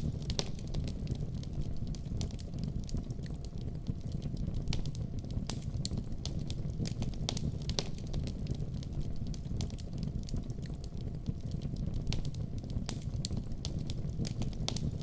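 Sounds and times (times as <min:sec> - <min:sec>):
flames rumbling: 0:00.0 - 0:15.0
wood fire popping and snapping: 0:00.0 - 0:15.0.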